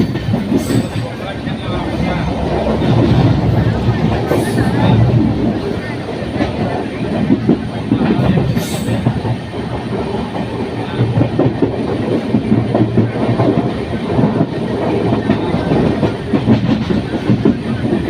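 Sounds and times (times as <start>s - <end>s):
train wheels clattering over joints: 0.0s - 18.0s.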